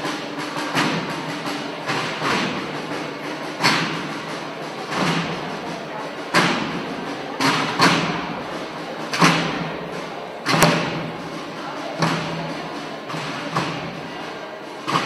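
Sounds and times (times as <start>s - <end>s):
drum beaten slowly with echo: 0.0s - 15.0s.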